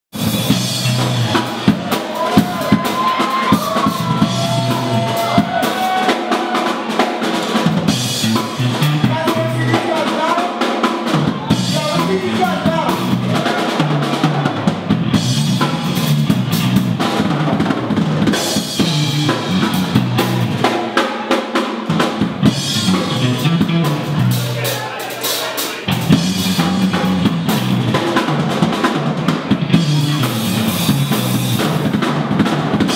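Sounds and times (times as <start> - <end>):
electric bass line: 0.1 - 6.0, 7.8 - 9.9, 11.1 - 20.9, 22.0 - 24.8, 25.9 - 32.9
drum kit playing: 0.1 - 32.9.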